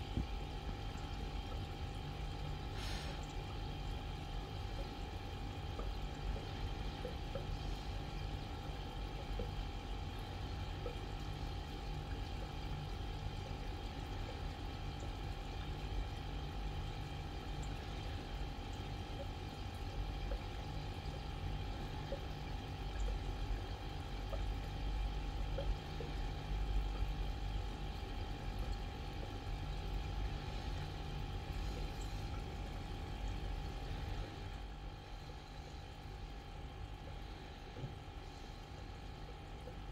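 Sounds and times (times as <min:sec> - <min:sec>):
aquarium air pump humming: 0:00.0 - 0:39.9
filter bubbling in water: 0:00.0 - 0:39.9.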